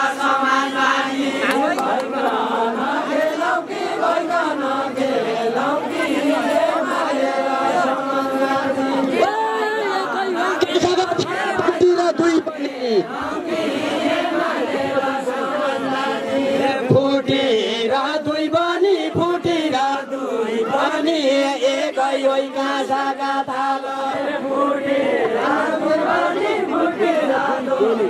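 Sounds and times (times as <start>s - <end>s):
men chanting unaccompanied: 0.0s - 28.0s.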